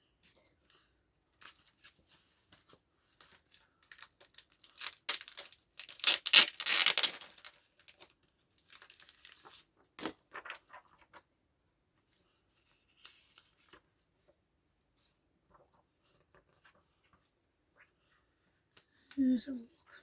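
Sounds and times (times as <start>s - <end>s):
paper rustling and crinkling: 0.1s - 18.4s.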